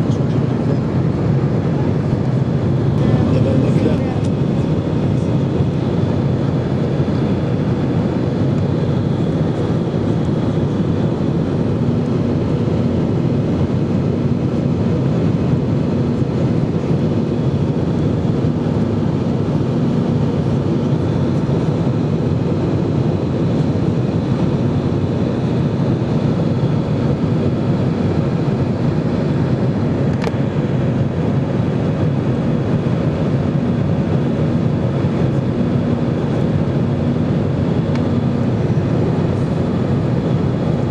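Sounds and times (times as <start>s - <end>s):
jet engines droning: 0.0s - 40.9s.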